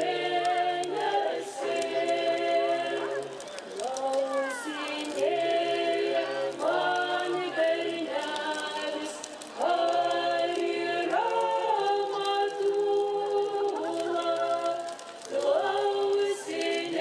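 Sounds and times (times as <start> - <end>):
unaccompanied choir singing: 0.0 - 17.0.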